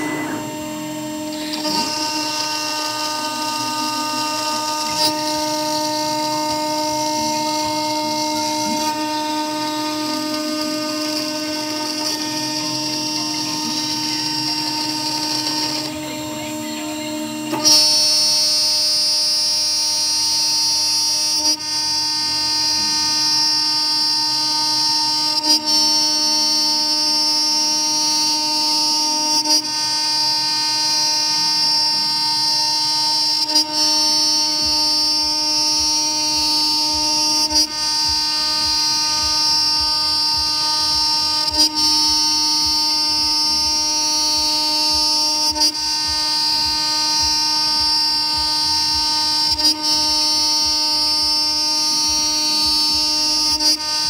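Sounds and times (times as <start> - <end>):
router spindle whine cutting metal: 0.0 - 54.0.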